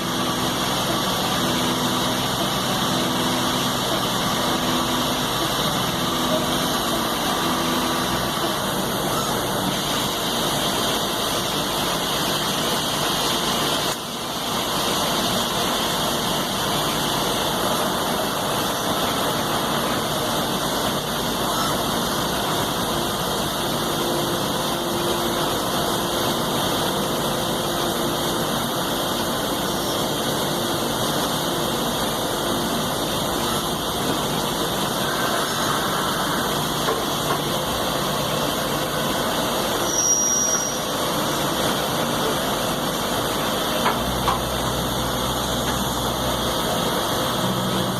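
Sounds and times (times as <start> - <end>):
lathe running: 0.0 - 47.9.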